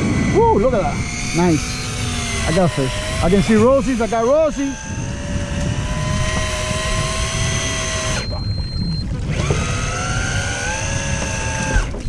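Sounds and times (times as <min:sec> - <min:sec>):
electric fishing reel whine: 0:00.0 - 0:12.0
low rumble: 0:00.0 - 0:12.0.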